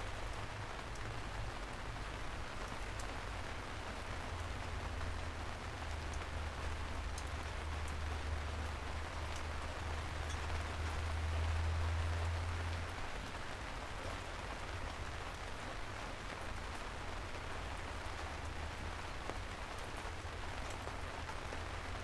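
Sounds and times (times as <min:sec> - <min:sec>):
steady rain falling: 0:00.0 - 0:22.0
raindrop ticks: 0:00.1 - 0:22.0.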